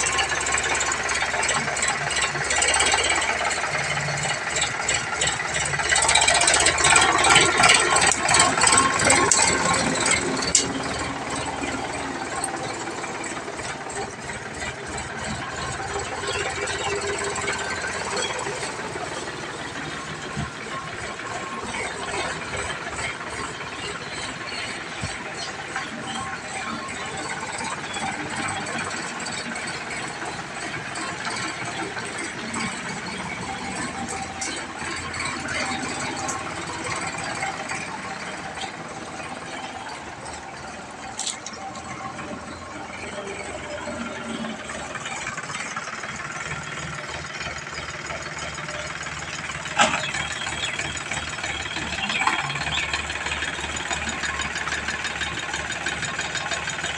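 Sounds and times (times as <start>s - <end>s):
tractor diesel engine clattering: 0.0s - 56.9s.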